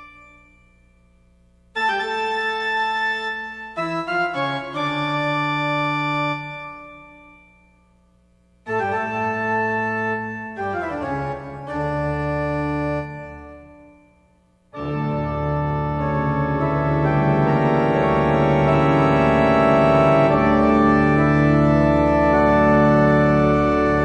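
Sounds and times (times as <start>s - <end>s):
organ-like keyboard chords: 0.0s - 24.0s.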